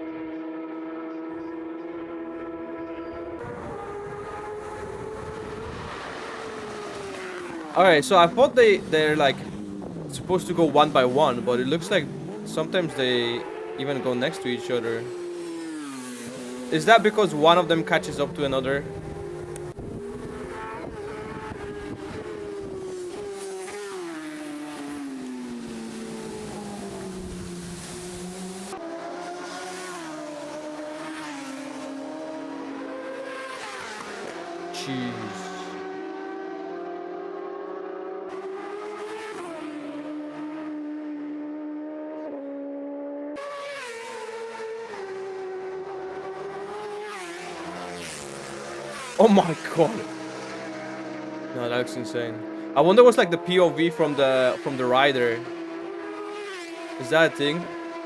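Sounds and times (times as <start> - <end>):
motorcycle engine at high revs: 0.0 - 58.0.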